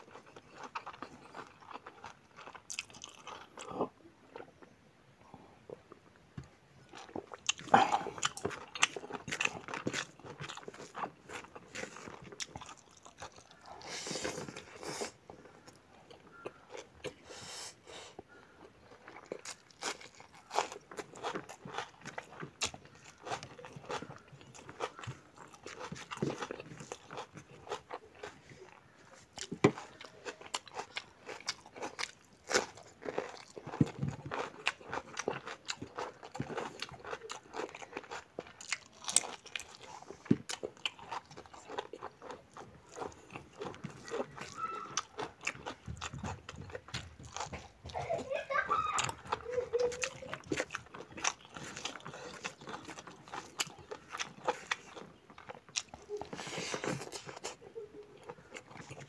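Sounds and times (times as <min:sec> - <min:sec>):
chewing with mouth clicks and smacks: 0:00.0 - 0:04.7, 0:06.8 - 0:17.2, 0:18.1 - 0:59.0.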